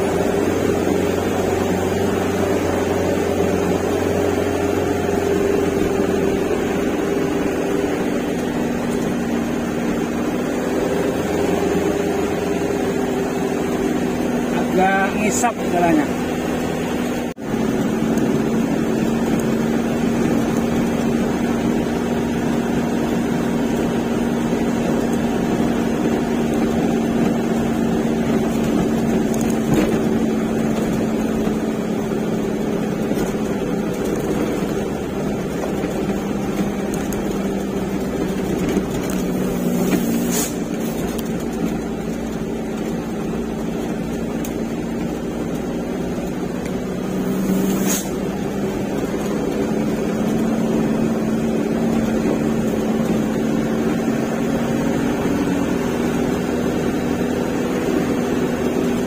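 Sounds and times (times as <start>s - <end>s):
road noise: 0.0s - 59.0s
truck engine running: 0.0s - 59.0s.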